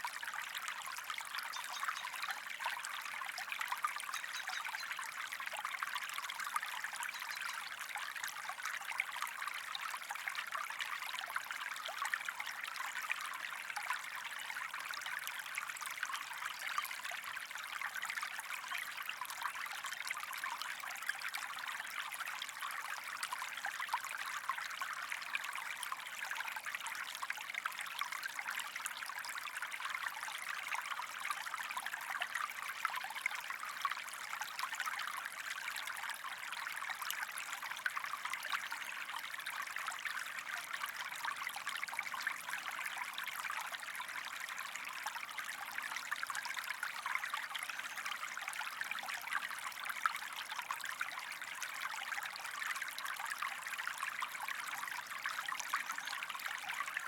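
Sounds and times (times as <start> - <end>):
stream running over stones: 0.0 - 57.0.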